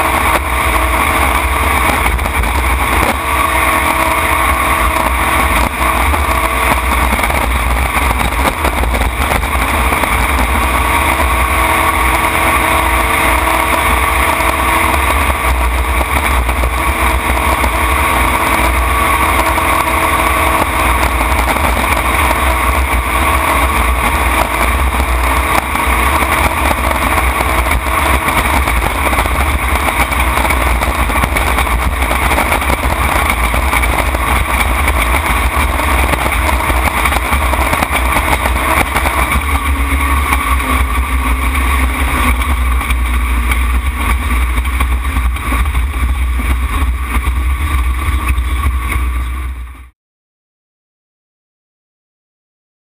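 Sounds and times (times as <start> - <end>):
wind rumble on microphone: 0.0 - 49.9
boat engine running at high speed: 0.0 - 50.0.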